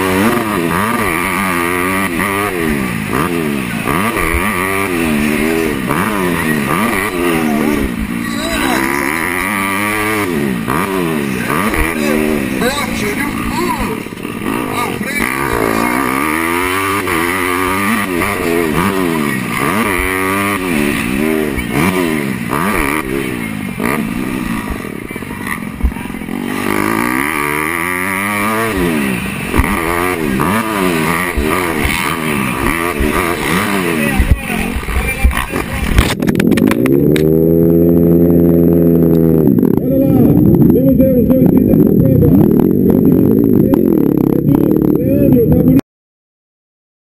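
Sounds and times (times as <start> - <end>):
motocross bike engine revving: 0.0 - 45.8.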